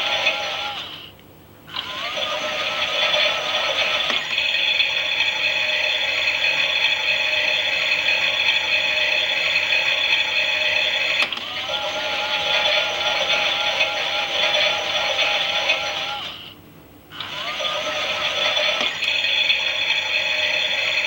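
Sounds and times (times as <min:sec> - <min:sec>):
toy washing machine motor whirring: 0:00.0 - 0:01.0, 0:01.7 - 0:21.0.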